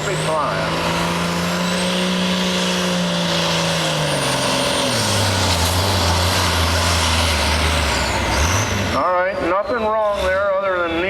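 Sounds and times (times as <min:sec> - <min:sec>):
tractor engine working hard: 0:00.0 - 0:11.0.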